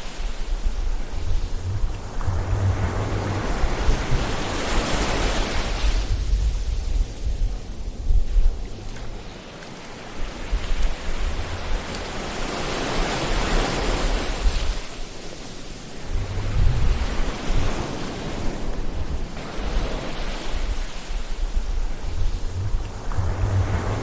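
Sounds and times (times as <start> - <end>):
ocean waves washing ashore: 0.0 - 24.0.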